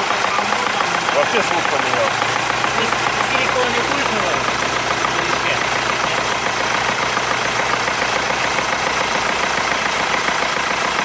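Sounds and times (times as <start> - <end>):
diesel engine idling with knock: 0.0 - 11.0.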